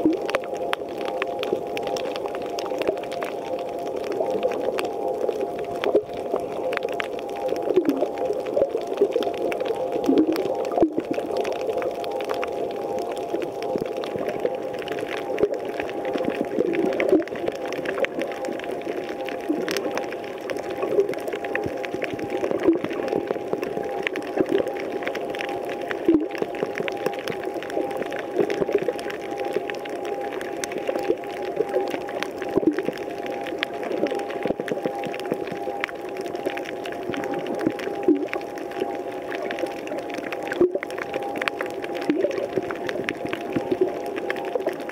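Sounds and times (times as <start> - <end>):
faint underwater clicks and crackles: 0.0 - 44.9.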